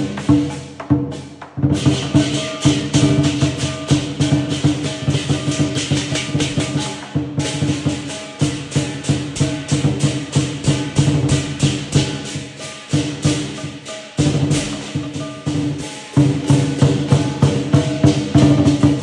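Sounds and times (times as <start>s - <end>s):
clashing cymbals: 0.0s - 19.0s
drum beating: 0.0s - 19.0s
ringing gong: 1.8s - 19.0s.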